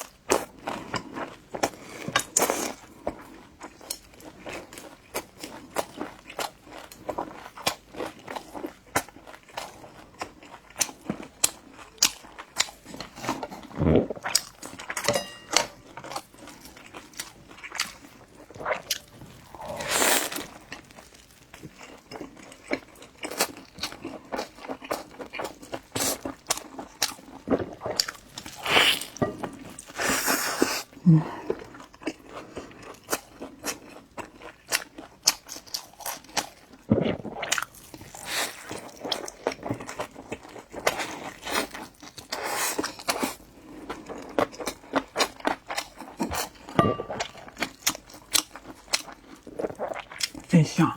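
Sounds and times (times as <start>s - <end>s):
person chewing crunchy food: 0.0s - 50.6s.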